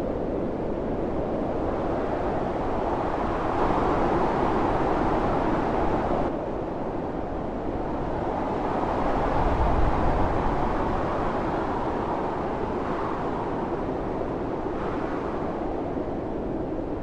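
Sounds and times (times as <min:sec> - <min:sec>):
blizzard wind howling: 0:00.0 - 0:17.0.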